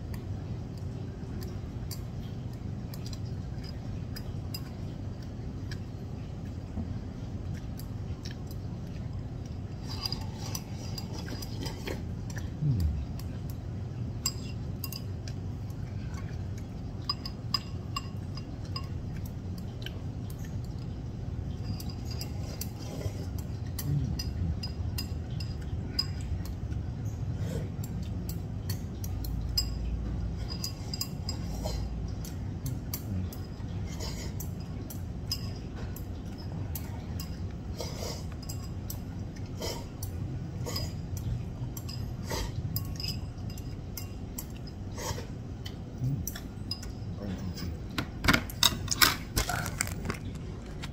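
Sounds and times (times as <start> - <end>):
chopsticks clinking on a bowl: 0.0 - 6.5, 7.5 - 50.4
low background hum: 0.0 - 50.9.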